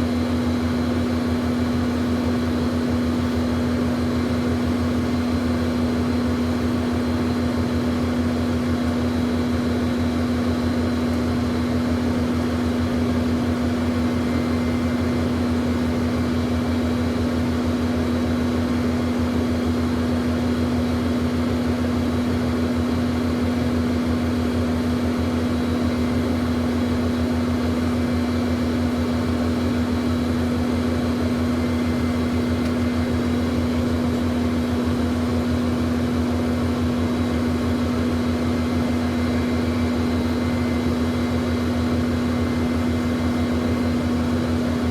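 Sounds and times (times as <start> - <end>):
jet airplane engine drone: 0.0 - 44.9.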